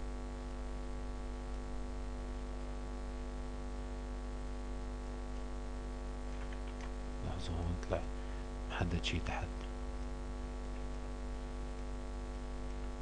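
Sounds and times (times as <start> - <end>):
electrical mains hum: 0.0 - 13.0
faint background hiss: 0.0 - 13.0.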